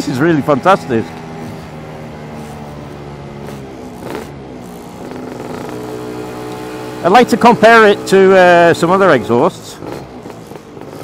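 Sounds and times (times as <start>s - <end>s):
scooter engine exhaust note: 1.0s - 11.0s.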